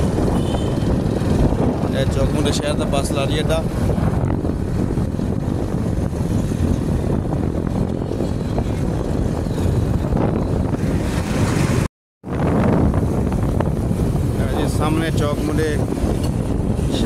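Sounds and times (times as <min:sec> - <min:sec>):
vehicle road noise: 0:00.0 - 0:17.0
wind rumbling on microphone: 0:00.0 - 0:17.0.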